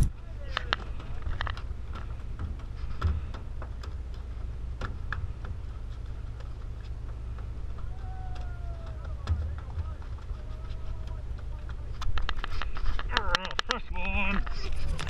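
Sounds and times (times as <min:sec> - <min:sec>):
boat machinery hum: 0:00.0 - 0:15.0
light clicks and ticks: 0:00.0 - 0:15.0.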